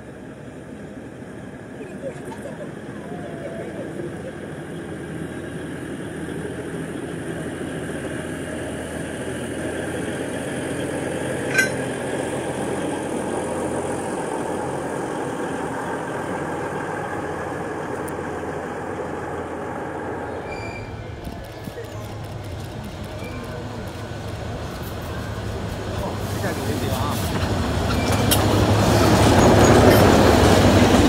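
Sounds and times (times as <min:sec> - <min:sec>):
diesel locomotive engine: 0:00.0 - 0:31.0.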